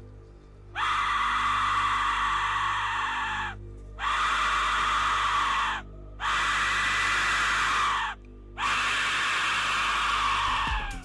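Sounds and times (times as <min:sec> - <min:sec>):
faint low drone: 0:00.0 - 0:11.0
shrill scream-like whistle blasts: 0:00.8 - 0:11.0.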